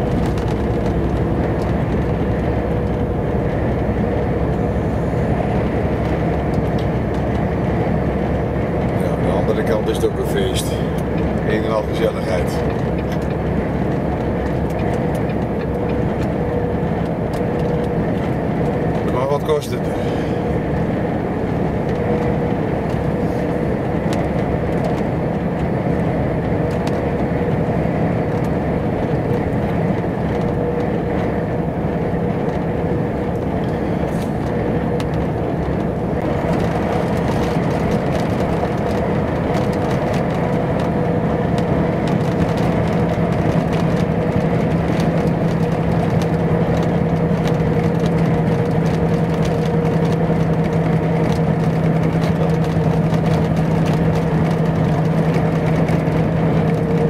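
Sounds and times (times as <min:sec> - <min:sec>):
truck diesel engine droning: 0:00.0 - 0:57.0
tyre and road noise: 0:00.0 - 0:57.0.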